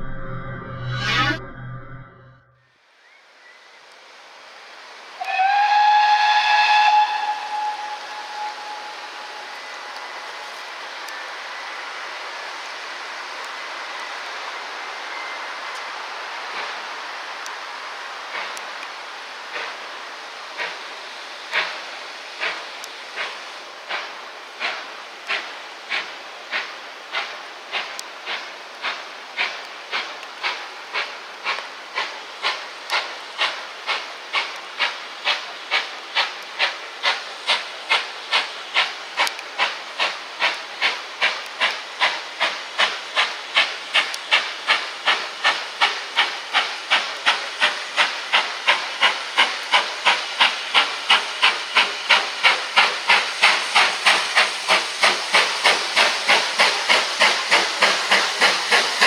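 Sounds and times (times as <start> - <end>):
steam locomotive exhaust chuffing: 3.8 - 59.0.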